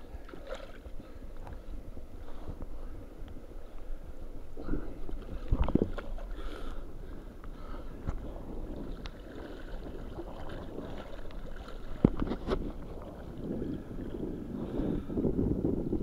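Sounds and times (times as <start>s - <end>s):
sea water lapping in shallows: 0.0s - 16.0s.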